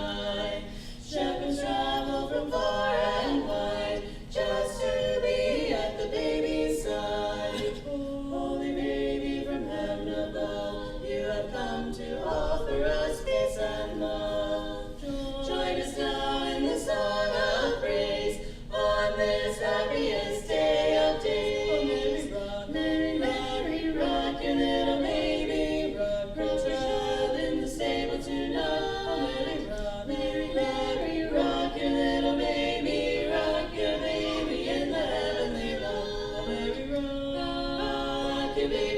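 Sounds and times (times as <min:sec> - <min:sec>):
a cappella group singing harmony: 0:00.0 - 0:38.9.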